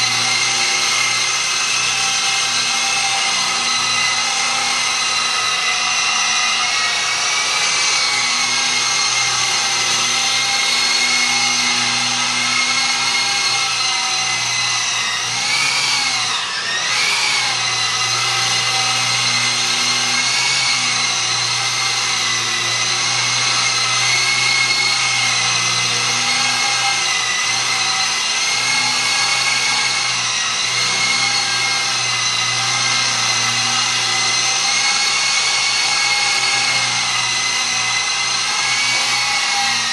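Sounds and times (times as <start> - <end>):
rc helicopter motor whine: 0.0 - 39.9.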